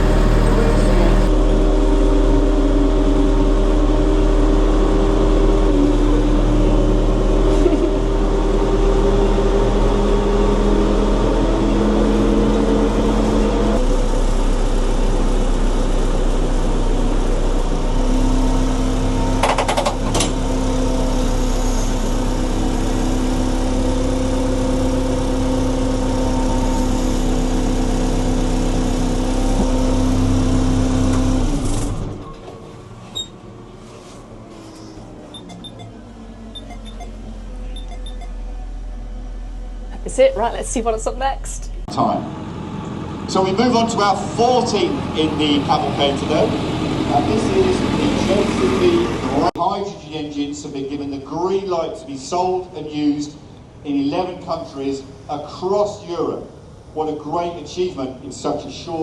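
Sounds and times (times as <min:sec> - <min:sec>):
diesel engines driving by: 0:00.0 - 0:59.0.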